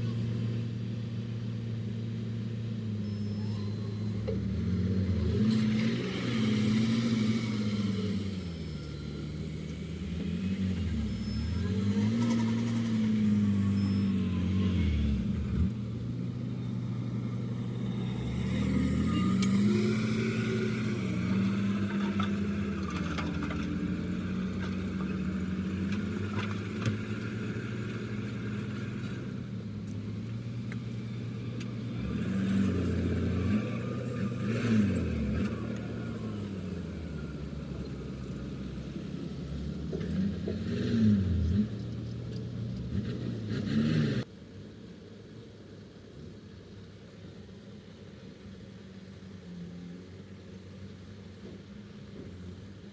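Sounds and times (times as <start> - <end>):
diesel engines revving: 0.0 - 44.3.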